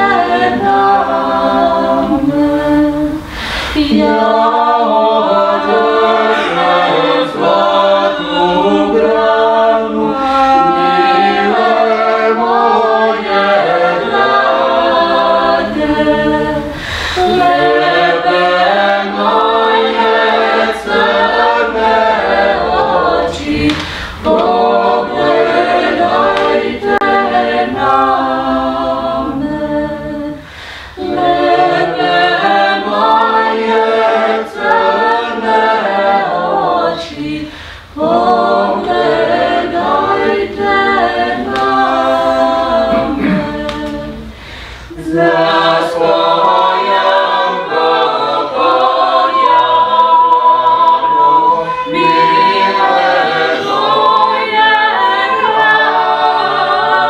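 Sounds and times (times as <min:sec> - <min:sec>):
a cappella choir singing in harmony: 0:00.0 - 0:57.0.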